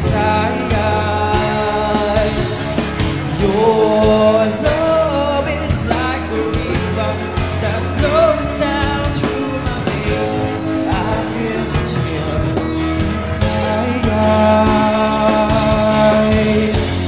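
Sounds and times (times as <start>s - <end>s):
instrumental backing music: 0.0s - 17.0s
man singing into microphone: 0.0s - 17.0s.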